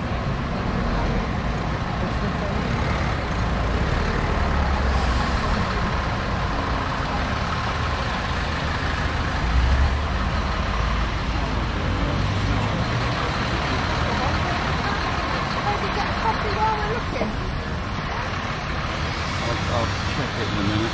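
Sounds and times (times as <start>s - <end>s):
car and lorry engines in traffic: 0.0s - 20.9s.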